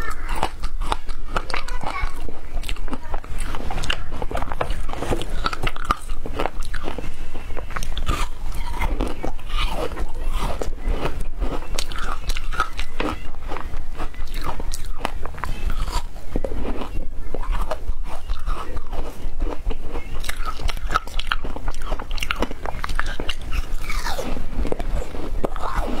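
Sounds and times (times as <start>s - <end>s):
chewing broken ice: 0.0s - 26.0s
teeth crunching frozen ice: 0.0s - 26.0s.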